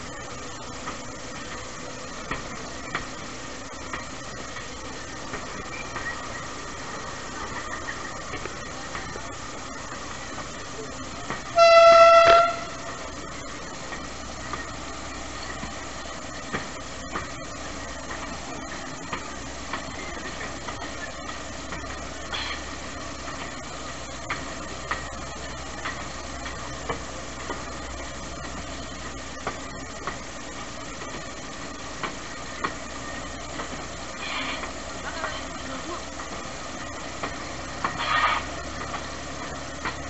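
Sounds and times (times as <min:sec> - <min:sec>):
train carriage rumble: 0:00.0 - 0:40.0
wheel clacks over rail joints: 0:00.0 - 0:40.0.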